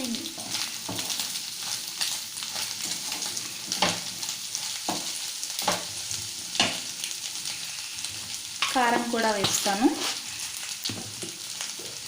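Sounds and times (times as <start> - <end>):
food sizzling in hot oil: 0.0 - 12.0
spatula scraping a pan: 0.4 - 11.2.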